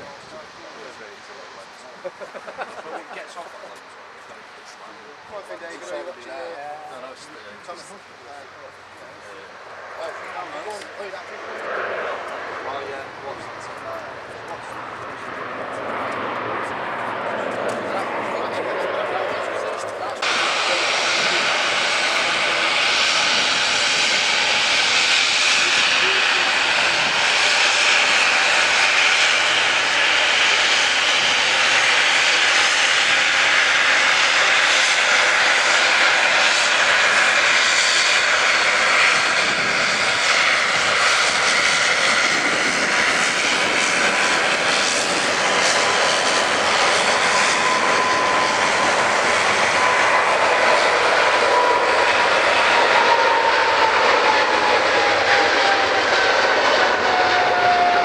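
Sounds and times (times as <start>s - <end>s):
airliner engines running: 0.0s - 58.0s
engine whine gliding down in pitch: 10.0s - 58.0s.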